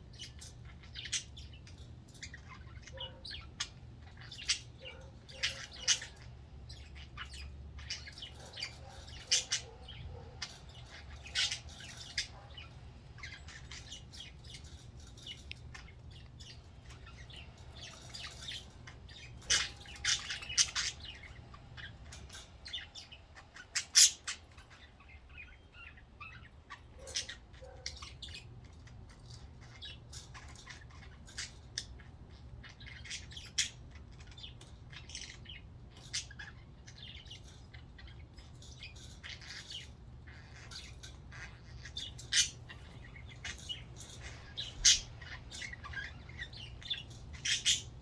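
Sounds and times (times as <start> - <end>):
budgerigars chirping and squawking: 0.0 - 48.0.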